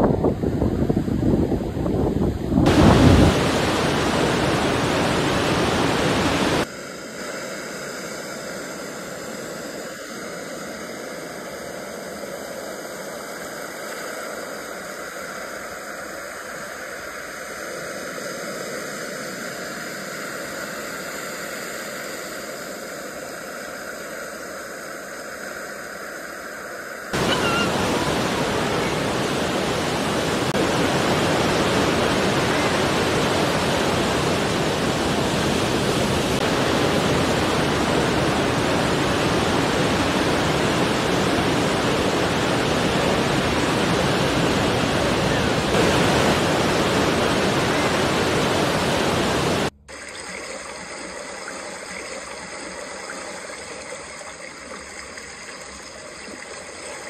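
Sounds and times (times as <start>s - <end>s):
ocean surf hissing: 2.6s - 24.4s, 27.1s - 52.6s.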